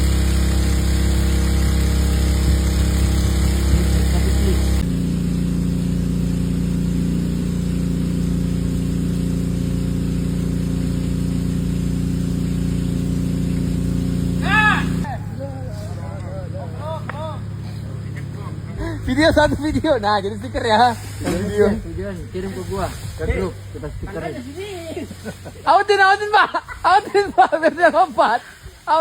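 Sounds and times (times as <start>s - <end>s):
engine humming: 0.0s - 29.0s.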